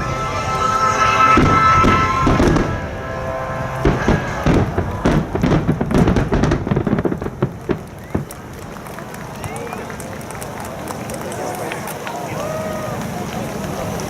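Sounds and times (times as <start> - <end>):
fireworks bursting and crackling: 0.1 - 14.0.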